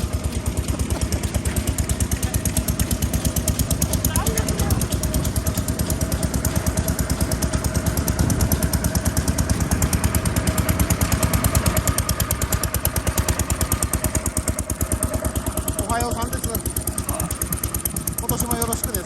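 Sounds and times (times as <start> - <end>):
farm engines chugging: 0.0 - 19.0.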